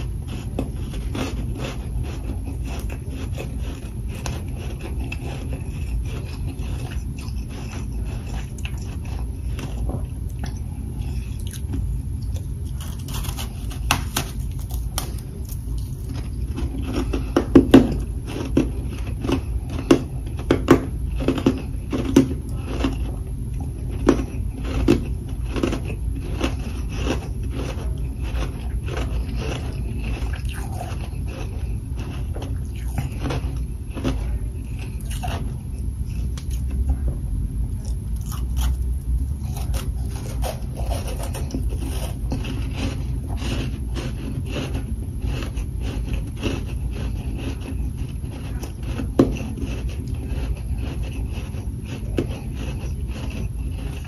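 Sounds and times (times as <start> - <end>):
frost being chewed: 0.0 - 54.0
low hum: 0.0 - 54.0.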